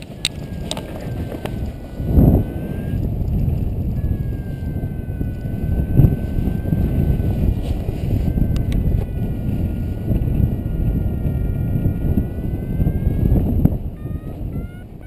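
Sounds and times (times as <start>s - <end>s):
faint high tone: 0.0s - 3.0s, 4.0s - 15.0s
wind buffeting microphone: 0.0s - 15.0s.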